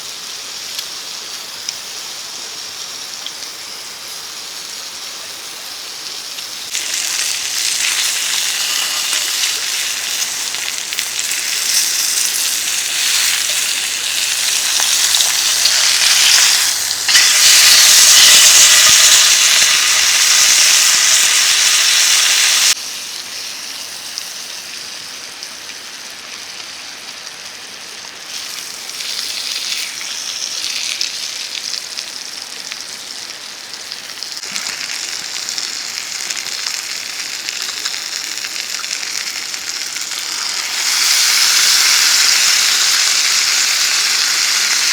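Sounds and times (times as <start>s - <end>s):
food sizzling in a pan: 0.0s - 44.9s.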